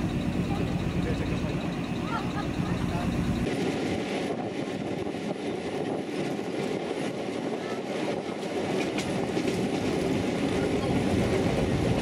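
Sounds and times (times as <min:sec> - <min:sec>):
diesel locomotive running: 0:00.0 - 0:12.0
train rolling along track: 0:00.0 - 0:12.0.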